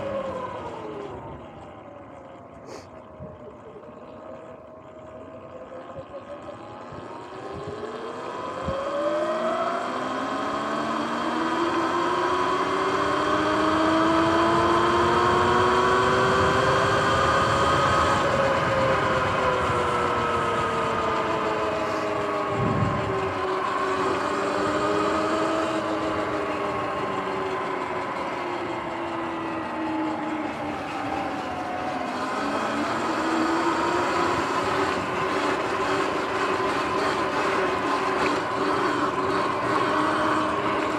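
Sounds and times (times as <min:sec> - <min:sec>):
electric motor whining: 0:06.5 - 0:40.9.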